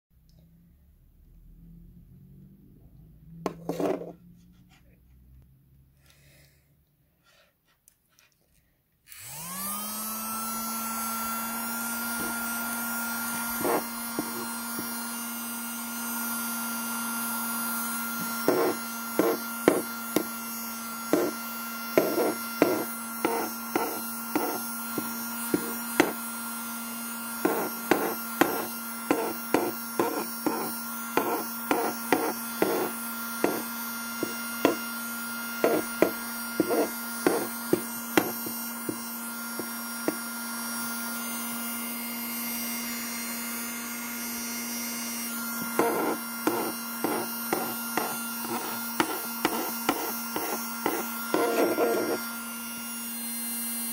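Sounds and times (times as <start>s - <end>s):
handheld vacuum motor hum: 9.1s - 53.9s.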